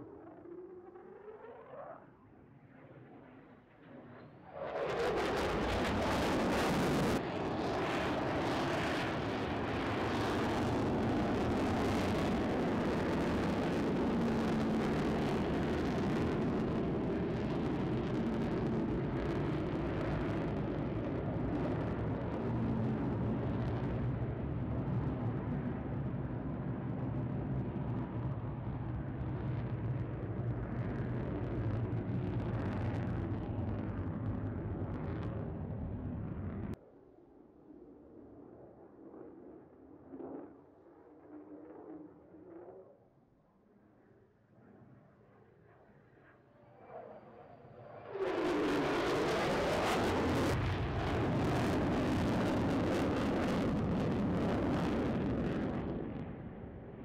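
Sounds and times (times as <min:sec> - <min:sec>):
fighter jet flying overhead: 0:00.0 - 0:57.0.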